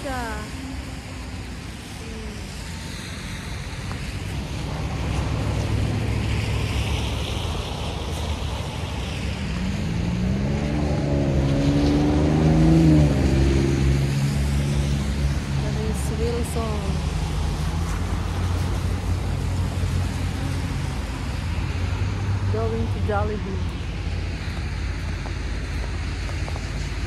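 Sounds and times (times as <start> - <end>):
tyres hissing on wet road: 0.0 - 27.0
vehicle engine: 0.0 - 27.0
wind rumble on microphone: 0.0 - 27.0.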